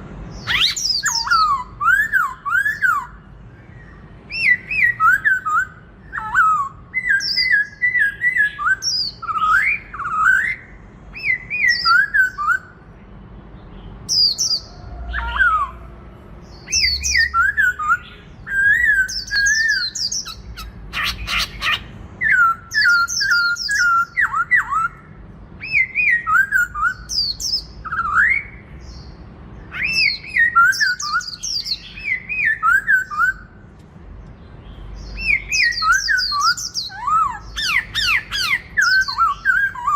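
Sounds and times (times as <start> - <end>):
bird singing whistled phrases: 0.4 - 12.8, 16.5 - 29.1, 29.7 - 33.6, 35.0 - 39.9.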